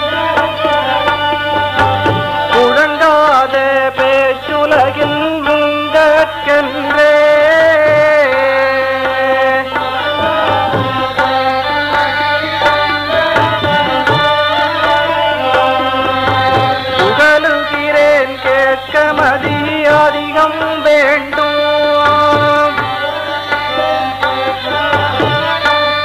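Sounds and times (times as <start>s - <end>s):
pitch-bending held melody: 0.0s - 26.0s.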